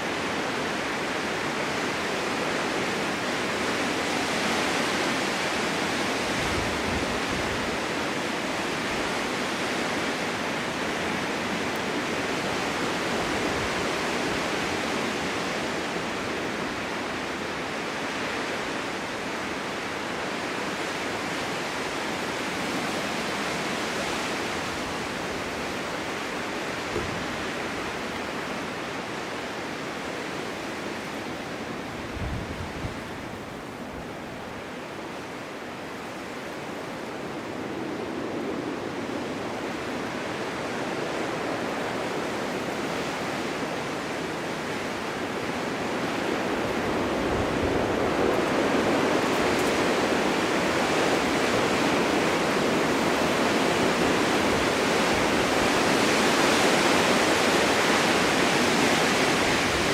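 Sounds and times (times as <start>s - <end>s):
low wind buffet: 0.0s - 59.9s
snowstorm wind blowing: 0.0s - 59.9s.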